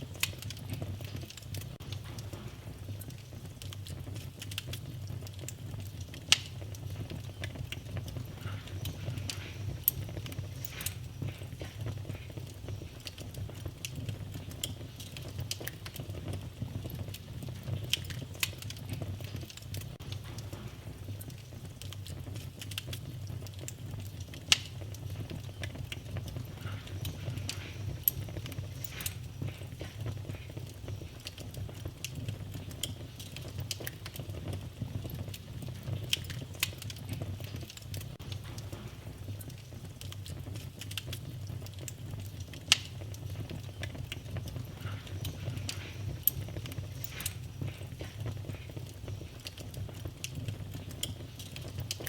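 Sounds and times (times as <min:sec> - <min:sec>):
fire crackles and pops: 0:00.0 - 0:52.0
low rumble of fire flames: 0:00.0 - 0:52.0.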